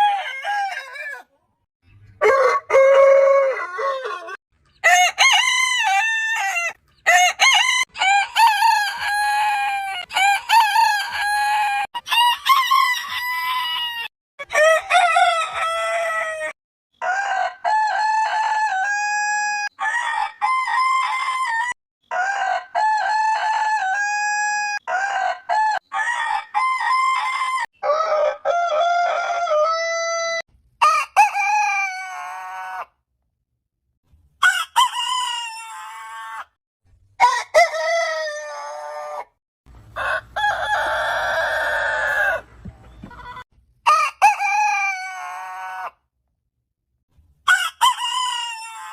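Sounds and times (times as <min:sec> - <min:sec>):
roosters crowing: 0:00.0 - 0:01.3, 0:02.2 - 0:32.9, 0:34.4 - 0:36.5, 0:37.2 - 0:46.0, 0:47.5 - 0:48.9.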